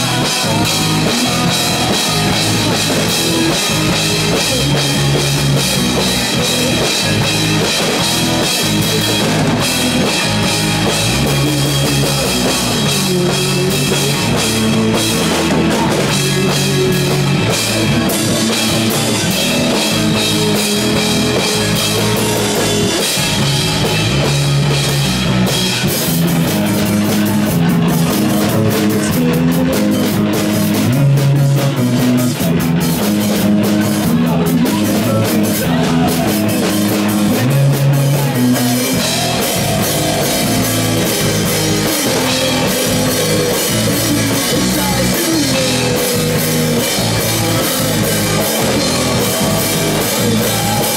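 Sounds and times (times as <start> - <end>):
drum kit: 0.0 - 50.9
electric guitar: 0.0 - 50.9.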